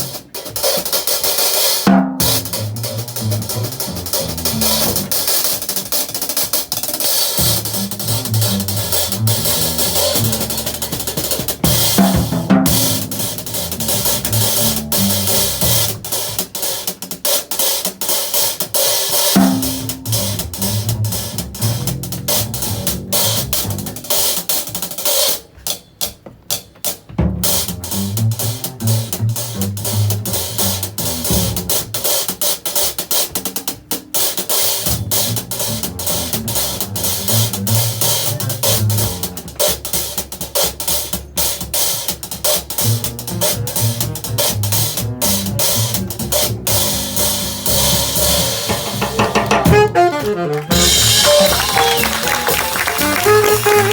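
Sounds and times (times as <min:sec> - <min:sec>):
jazz band playing: 0:00.0 - 0:25.1, 0:27.2 - 0:53.9.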